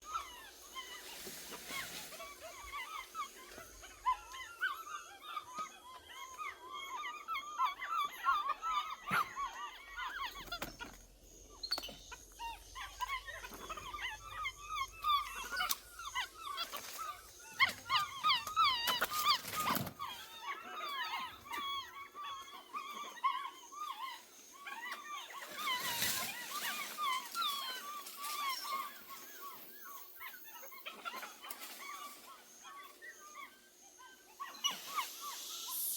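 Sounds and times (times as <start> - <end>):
squeaky animal chirping and whimpers: 0.0 - 35.9.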